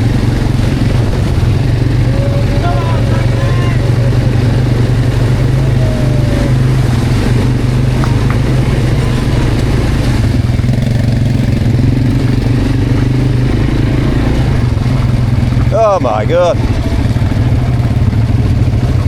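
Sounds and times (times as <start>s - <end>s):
quad bike engine running: 0.0s - 19.0s.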